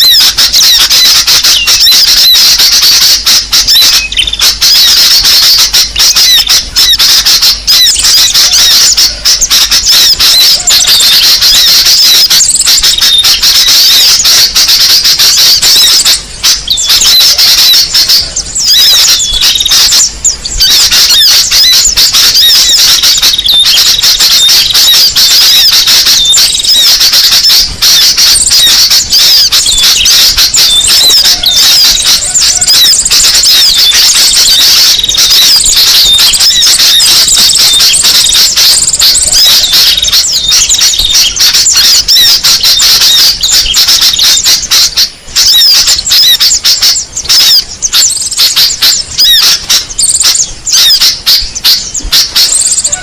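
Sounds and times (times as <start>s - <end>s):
songbirds chirping in chorus: 0.0s - 44.7s, 46.0s - 53.0s.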